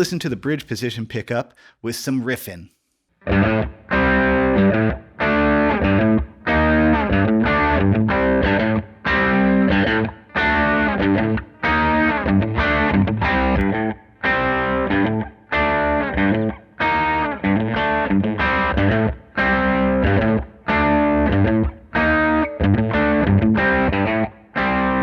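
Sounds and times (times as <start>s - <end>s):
electric guitar chord riff: 3.3s - 25.0s.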